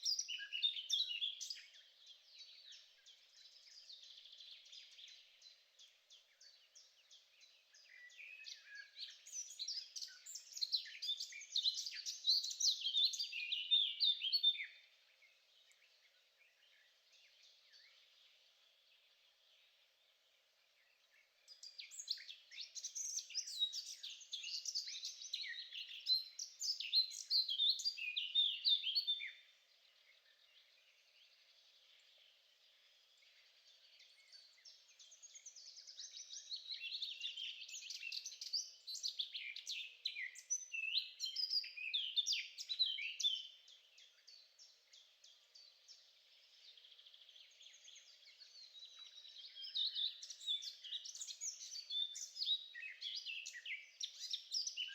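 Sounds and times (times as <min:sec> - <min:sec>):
songbird chirps and trills: 0:00.0 - 0:54.9.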